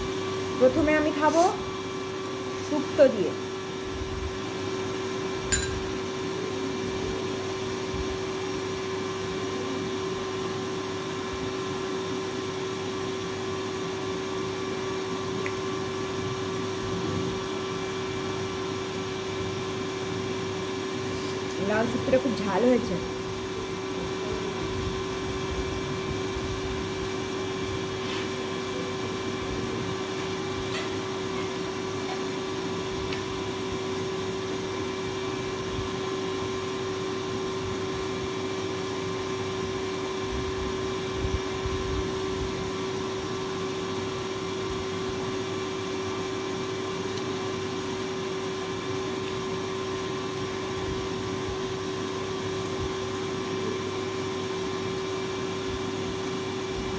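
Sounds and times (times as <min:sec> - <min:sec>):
electric water pump humming: 0:00.0 - 0:56.9.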